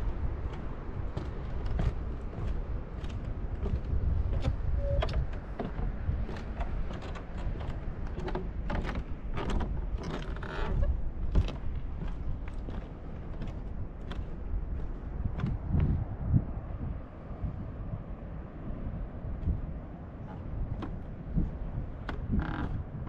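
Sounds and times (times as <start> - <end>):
footsteps on wooden boards: 0.0 - 16.0, 19.4 - 22.9
wind rumbling on microphone: 0.0 - 23.0.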